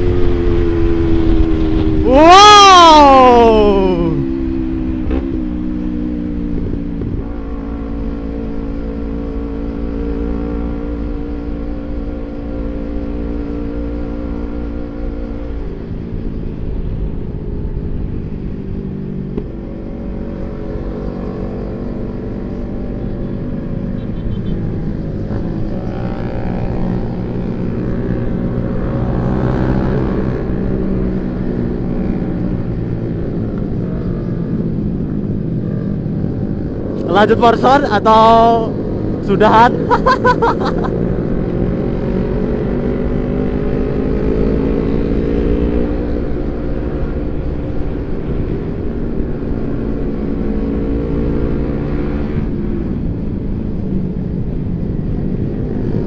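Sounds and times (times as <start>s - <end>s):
motorcycle engine revving: 0.0s - 16.4s, 17.4s - 56.0s.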